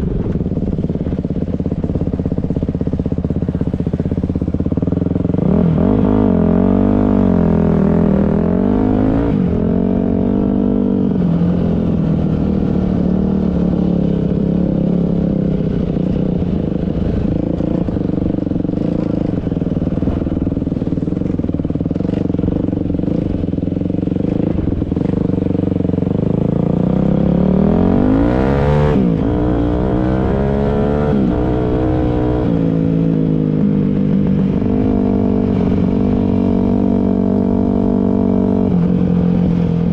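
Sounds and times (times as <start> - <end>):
dirt bike engine revving: 5.2 - 38.9.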